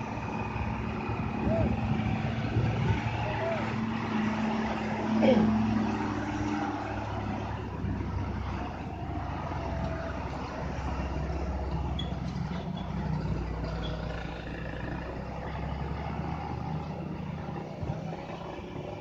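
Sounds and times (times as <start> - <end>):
truck diesel engines droning: 0.0 - 19.0.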